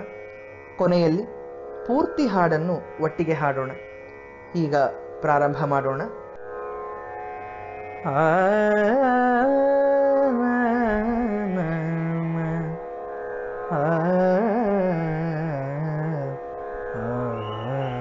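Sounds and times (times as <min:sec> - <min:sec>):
steady drone: 0:00.0 - 0:18.0.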